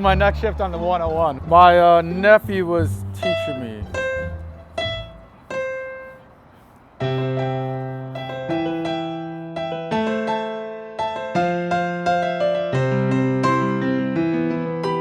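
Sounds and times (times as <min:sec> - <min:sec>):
piano notes and chords: 0:00.0 - 0:15.0.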